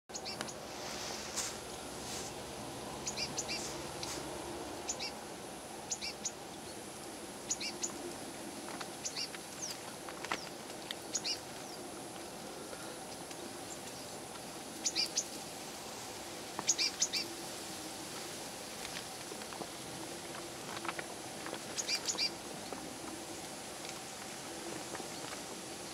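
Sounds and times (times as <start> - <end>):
low background noise: 0.1 - 25.9.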